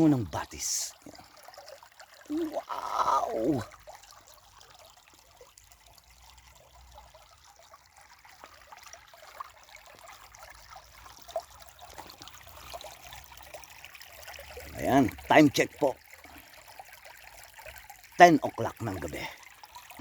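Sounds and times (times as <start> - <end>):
stream trickling over stones: 0.0 - 20.0.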